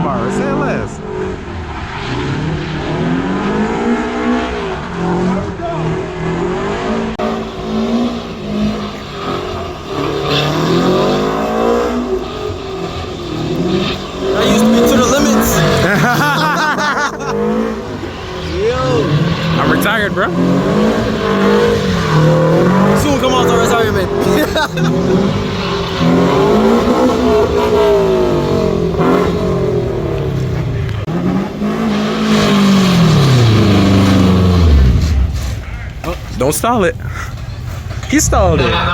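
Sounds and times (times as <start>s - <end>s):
car engine revving hard: 0.0s - 35.7s.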